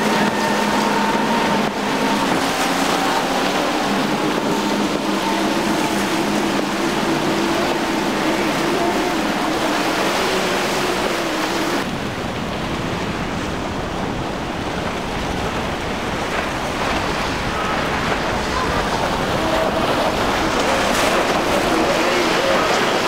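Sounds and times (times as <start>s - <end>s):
outboard engines droning: 0.0s - 23.0s
rush of spray and waves: 0.0s - 23.0s
wind on microphone: 0.0s - 23.0s.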